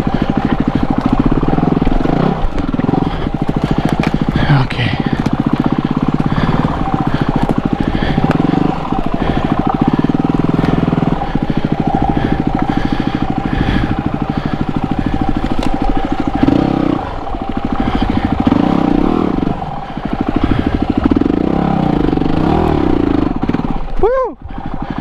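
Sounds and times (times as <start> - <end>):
engine throttle bursts: 0.0 - 25.0
motorcycle engine chugging: 0.0 - 25.0.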